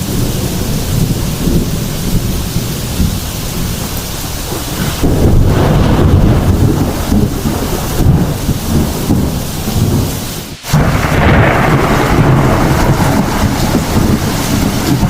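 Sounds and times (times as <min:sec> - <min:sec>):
heavy rain falling: 0:00.0 - 0:15.0
thunder rumbling: 0:00.0 - 0:15.0.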